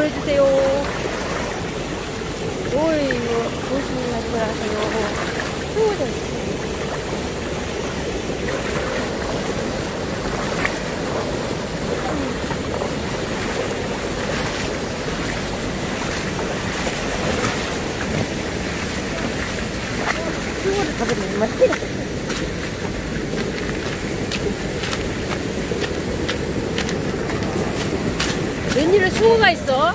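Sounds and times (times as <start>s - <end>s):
small waves on pebbly shore: 0.0s - 29.9s
water sloshing around legs: 0.0s - 29.9s
wind buffeting microphone: 0.0s - 29.9s.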